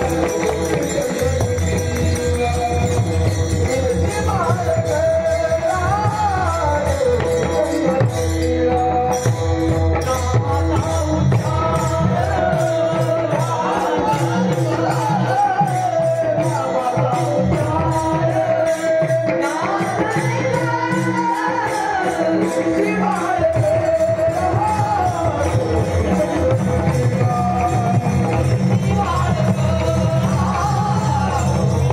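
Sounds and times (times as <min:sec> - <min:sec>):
person singing devotional song: 0:00.0 - 0:31.9.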